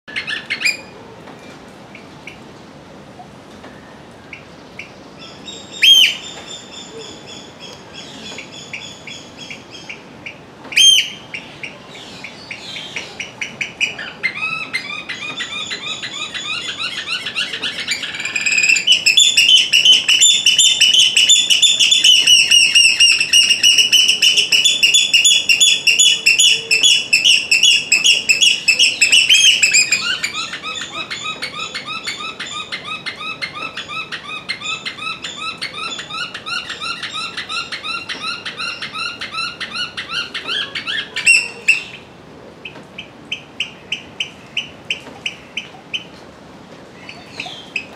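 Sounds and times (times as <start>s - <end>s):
oystercatchers piping calls: 4.3s - 46.1s.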